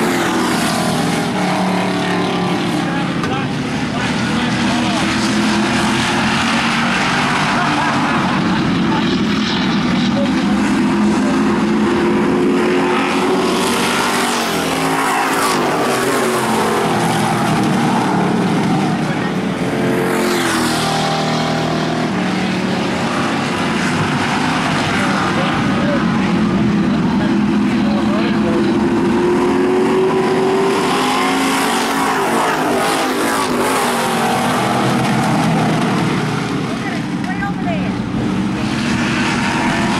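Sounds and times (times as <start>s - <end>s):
cars passing by: 0.0s - 39.9s
race car engines: 0.0s - 39.9s.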